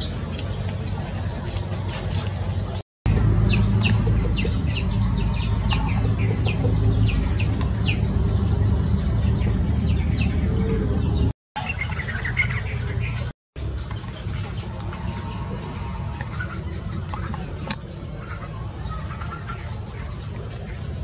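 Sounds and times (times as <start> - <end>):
low hum: 0.0 - 21.0
songbird chirping: 0.0 - 21.0.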